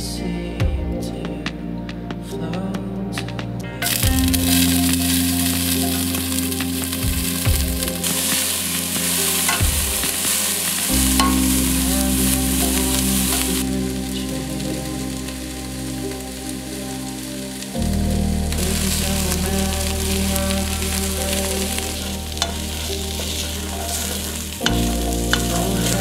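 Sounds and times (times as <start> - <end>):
onion sizzling in hot oil: 3.9 - 17.7, 18.4 - 26.0.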